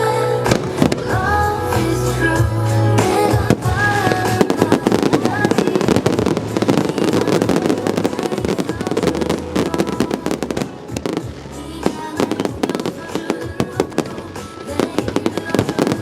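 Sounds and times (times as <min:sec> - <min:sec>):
music playing: 0:00.0 - 0:16.0
fireworks bursting and crackling: 0:00.4 - 0:16.0.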